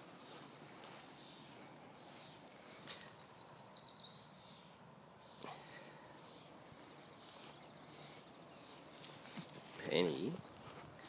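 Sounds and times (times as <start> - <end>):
bird chirping: 0.0 - 11.0
faint outdoor ambience: 0.0 - 11.0.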